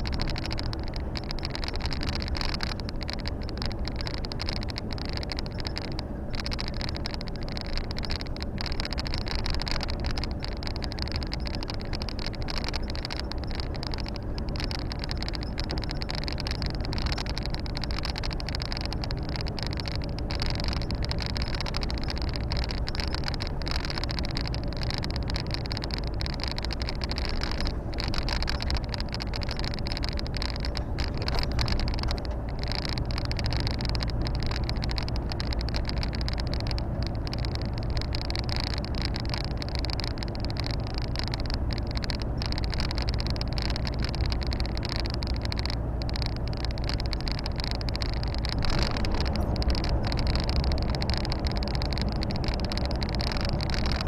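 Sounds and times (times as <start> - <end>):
truck engine and road noise: 0.0 - 54.0.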